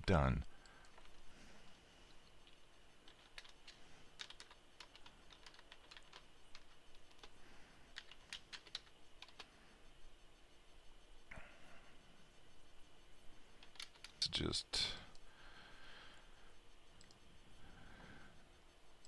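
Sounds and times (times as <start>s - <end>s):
faint keyboard typing: 0.0s - 11.0s, 11.9s - 19.0s.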